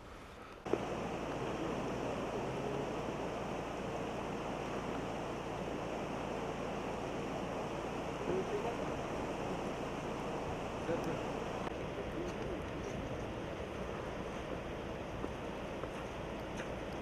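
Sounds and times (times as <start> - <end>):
river water rushing: 0.7 - 17.0.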